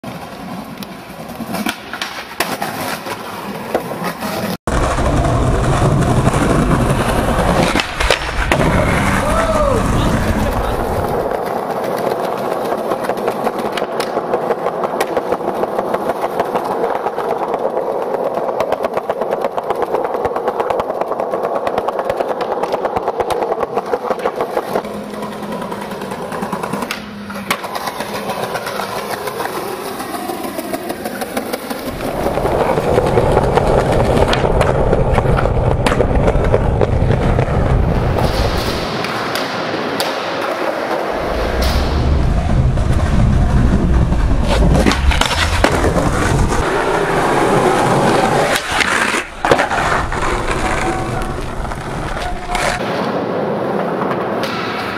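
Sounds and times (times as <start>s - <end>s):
skateboard wheels rolling on concrete: 0.0s - 54.9s.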